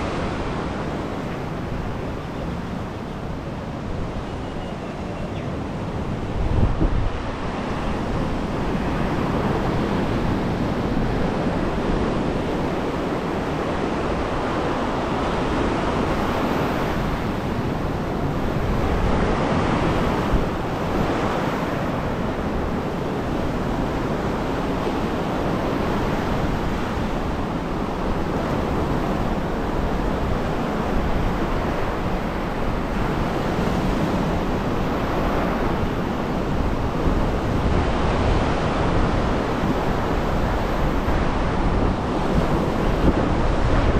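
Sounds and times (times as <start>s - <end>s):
wind rumbling on microphone: 0.0s - 43.9s
surf washing onto shore: 5.9s - 43.9s.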